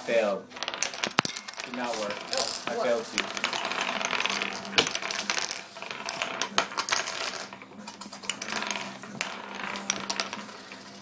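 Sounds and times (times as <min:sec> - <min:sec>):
wooden discs spinning and clicking: 0:00.0 - 0:11.0.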